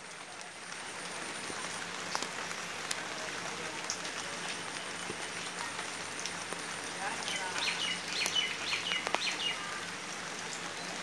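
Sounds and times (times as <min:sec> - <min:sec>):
light rain hiss: 0:00.0 - 0:11.0.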